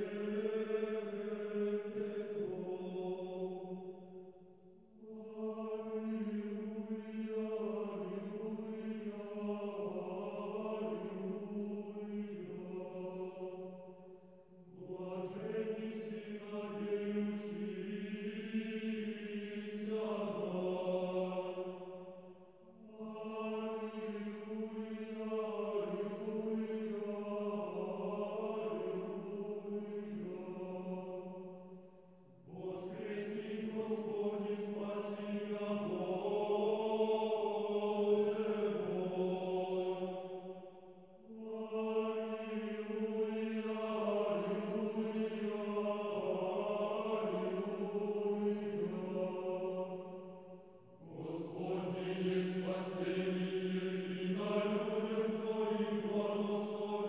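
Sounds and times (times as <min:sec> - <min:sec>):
slow vocal chant: 0:00.0 - 0:57.0.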